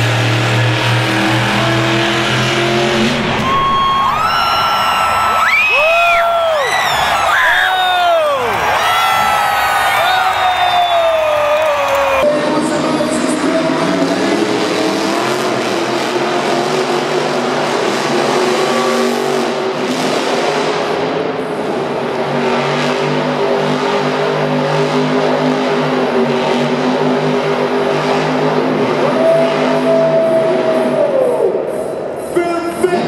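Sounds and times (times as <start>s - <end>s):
truck engine revving: 0.0s - 32.3s.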